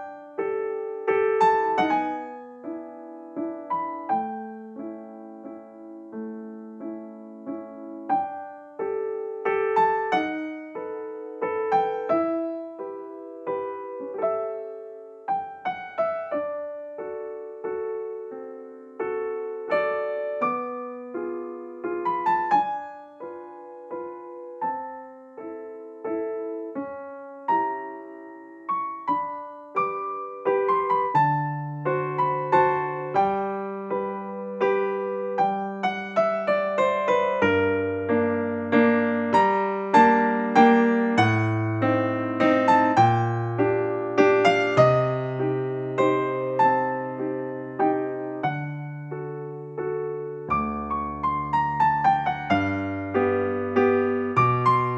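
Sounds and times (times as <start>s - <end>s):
piano melody: 0.0s - 54.9s.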